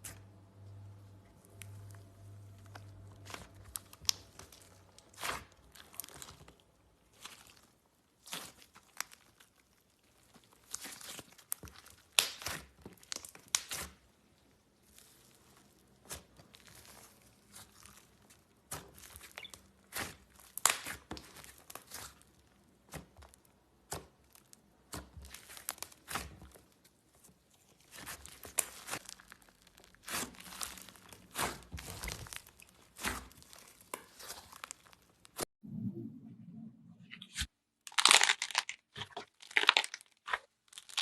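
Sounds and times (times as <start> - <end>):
slime crackling and popping: 1.5 - 35.4, 37.9 - 41.0.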